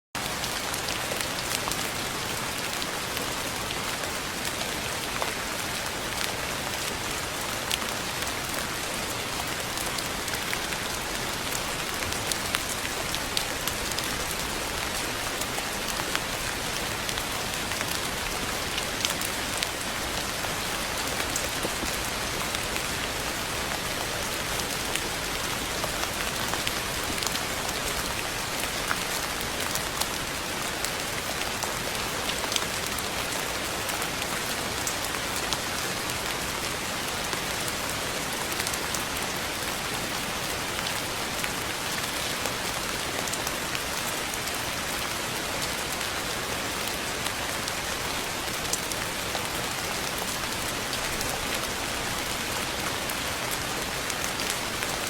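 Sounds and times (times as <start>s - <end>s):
rain drops ticking: 0.2s - 55.0s.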